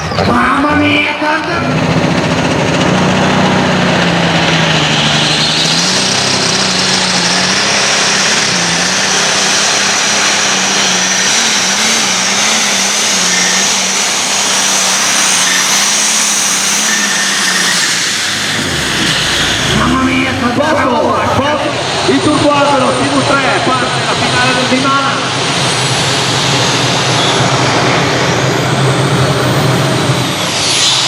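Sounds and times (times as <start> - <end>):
high whine: 0.0 - 31.0
tractor engine running flat out: 0.0 - 31.0.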